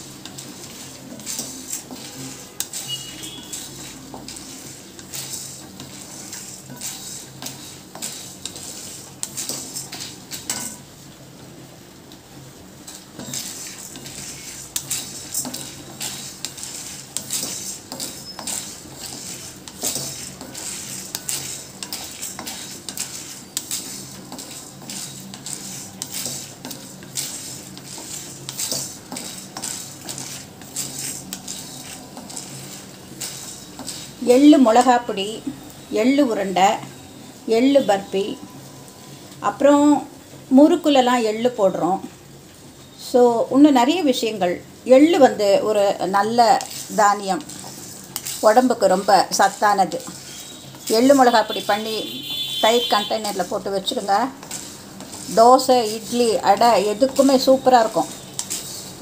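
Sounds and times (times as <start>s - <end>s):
metal spoon scraping a pan: 0.0s - 10.9s, 12.8s - 39.3s, 45.0s - 59.0s.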